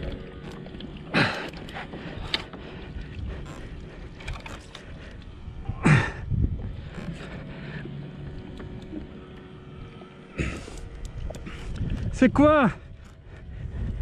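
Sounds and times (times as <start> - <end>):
water splashing against kayak hull: 0.0 - 12.2
wind: 0.0 - 14.0.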